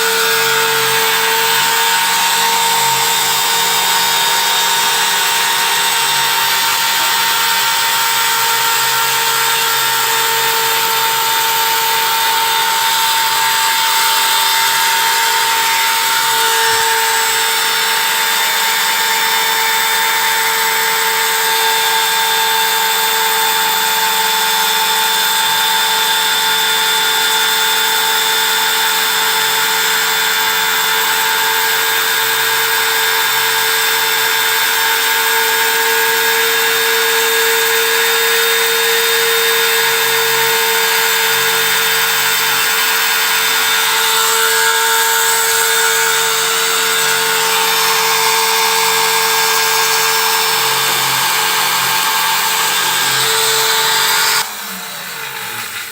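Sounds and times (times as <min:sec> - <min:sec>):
engraving machine whine: 0:00.0 - 0:55.9.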